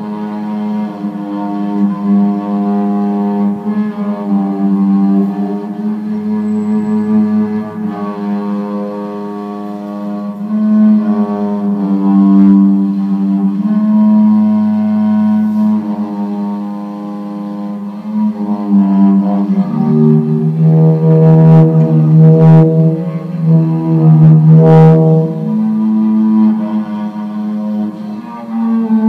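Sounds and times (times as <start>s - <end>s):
cello melody: 0.0s - 29.0s.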